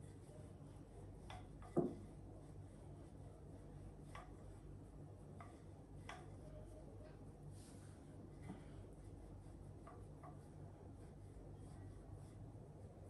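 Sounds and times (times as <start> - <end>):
rolling pin rolling dough: 0.0 - 13.0.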